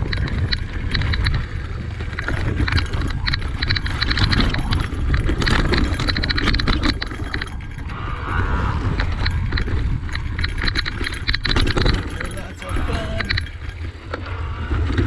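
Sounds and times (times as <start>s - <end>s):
bike rattling and clicking: 0.0s - 15.0s
wind rumble on microphone: 0.0s - 15.0s.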